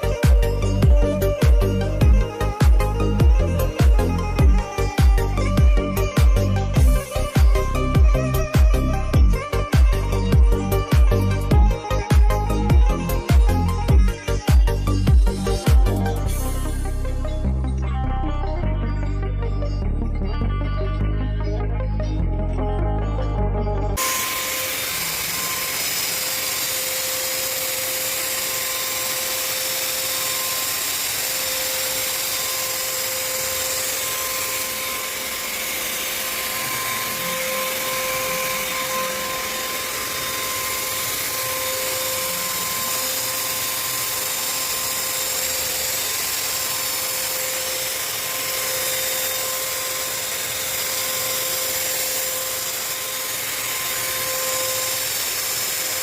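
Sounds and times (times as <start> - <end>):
paint sprayer hissing: 0.0 - 16.8, 24.0 - 56.0
motor whine: 0.0 - 56.0.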